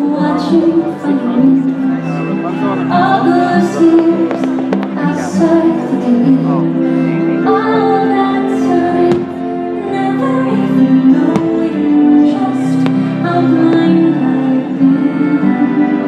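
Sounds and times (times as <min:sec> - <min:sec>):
music with singing: 0:00.0 - 0:16.0.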